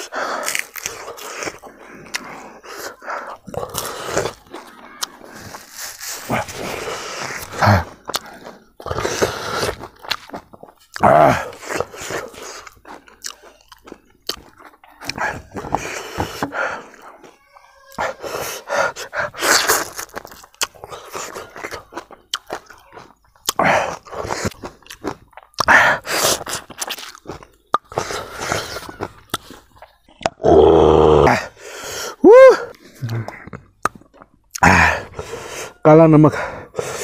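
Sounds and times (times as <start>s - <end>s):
person chewing and crunching food: 0.0s - 37.0s.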